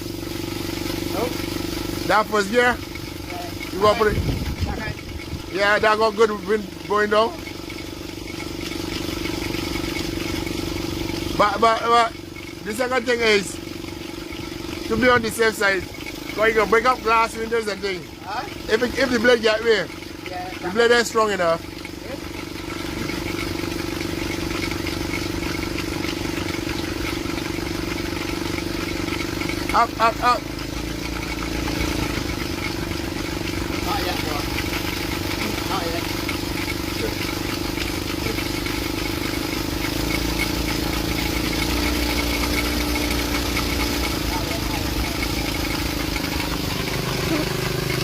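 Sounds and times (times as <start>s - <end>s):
propeller aircraft engine running: 0.0s - 48.0s.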